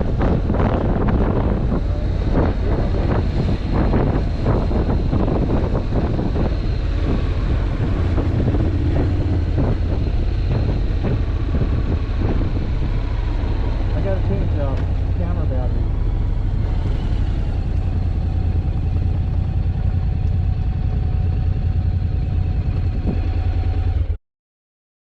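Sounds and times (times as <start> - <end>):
wind buffeting microphone: 0.0 - 23.8
motorcycle engine drone: 0.0 - 24.2.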